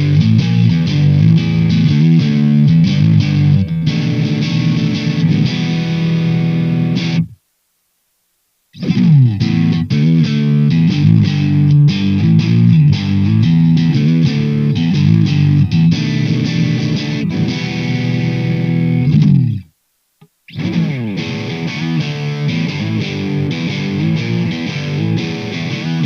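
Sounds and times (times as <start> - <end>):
overdriven electric guitar riff: 0.0 - 7.4, 8.8 - 19.7, 20.5 - 26.0.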